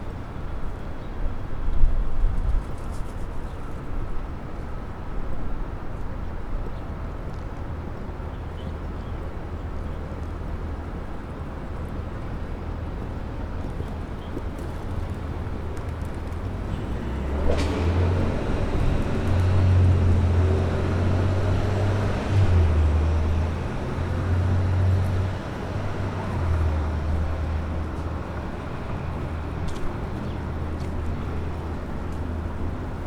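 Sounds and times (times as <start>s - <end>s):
city street traffic: 0.0s - 33.0s.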